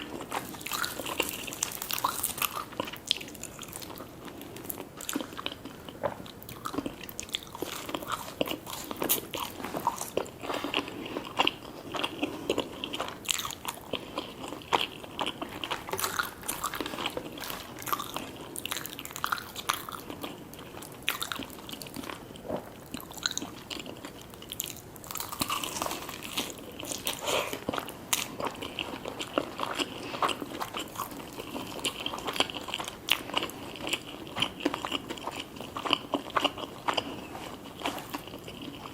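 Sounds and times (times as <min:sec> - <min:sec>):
chewing crunchy fried food: 0:00.0 - 0:38.9.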